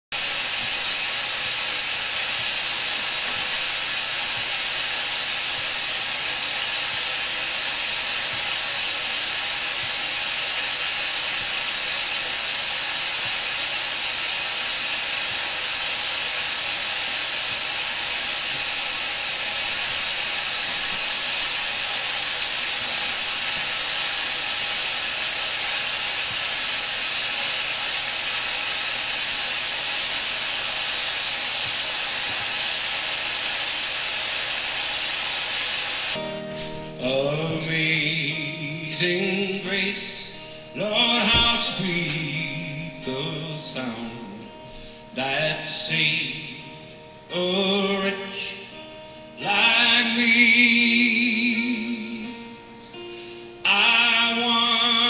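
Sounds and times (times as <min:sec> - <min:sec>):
steady hiss: 0:00.1 - 0:55.0.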